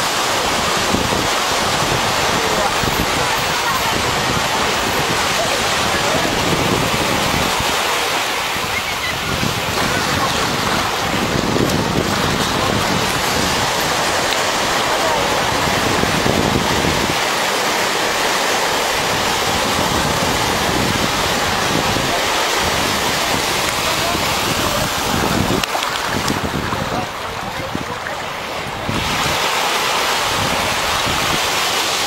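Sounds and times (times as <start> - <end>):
surf breaking on beach: 0.0 - 32.0.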